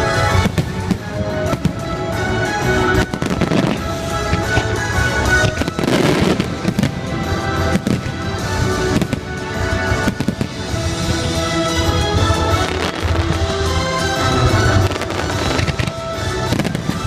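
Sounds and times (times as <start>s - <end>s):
loud music: 0.0s - 17.0s
fireworks bangs: 0.1s - 17.0s.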